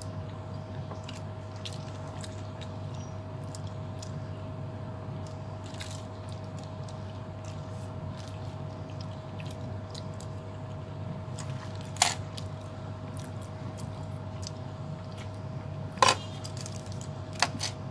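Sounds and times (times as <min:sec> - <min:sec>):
steady background hum: 0:00.0 - 0:17.9.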